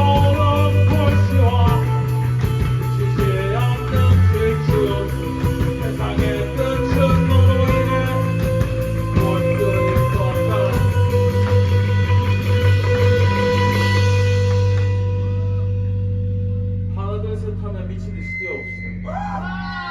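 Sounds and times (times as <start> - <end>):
live rock band playing: 0.0 - 16.8
sustained electric guitar chord: 0.0 - 18.0.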